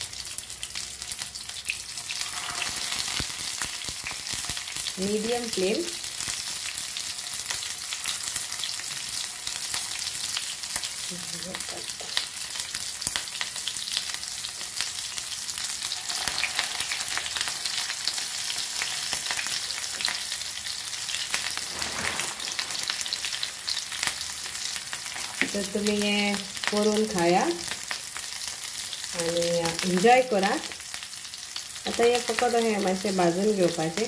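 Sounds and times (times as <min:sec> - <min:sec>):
hot oil sizzling in a pan: 0:00.0 - 0:34.0.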